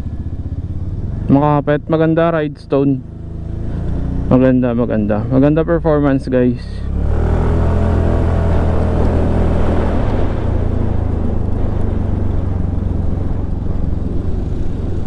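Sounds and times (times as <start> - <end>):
scooter engine running: 0.0 - 15.0
wind and road noise: 0.0 - 15.0.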